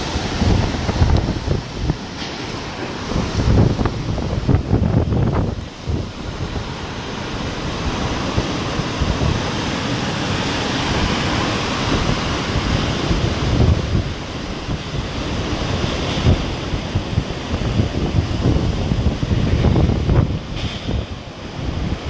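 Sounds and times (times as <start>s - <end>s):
strong wind rushing: 0.0s - 22.0s.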